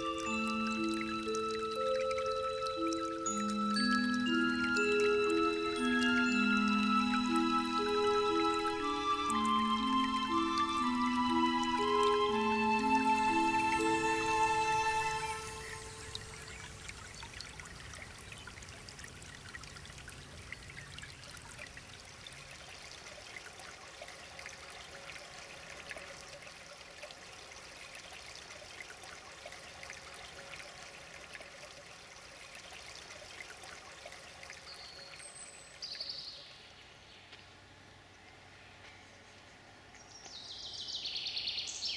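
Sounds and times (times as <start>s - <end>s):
brook babbling over rocks: 0.0s - 36.4s.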